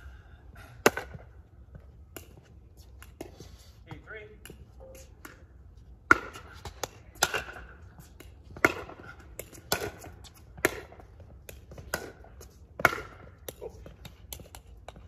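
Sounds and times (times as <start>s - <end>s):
pickleball paddle hits and bounces: 2.1s - 3.3s, 3.9s - 15.0s.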